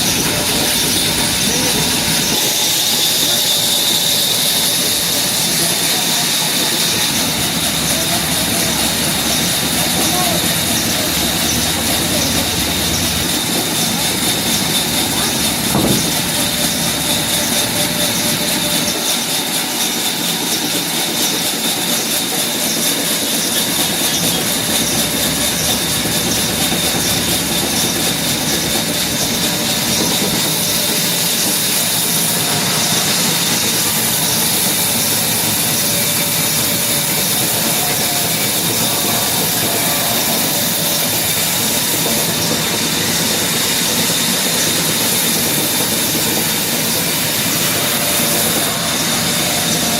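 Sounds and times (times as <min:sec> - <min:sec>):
power saw cutting wood: 0:00.0 - 0:49.9.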